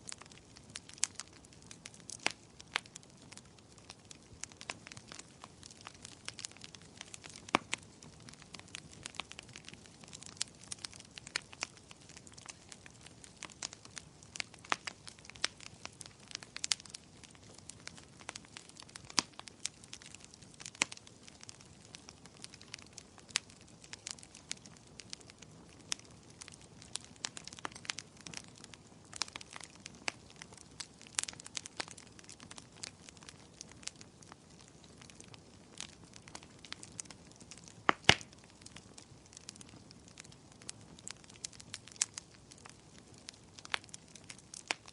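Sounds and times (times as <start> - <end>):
firewood crackling and popping: 0.0 - 44.9
low fire hiss: 0.0 - 44.9.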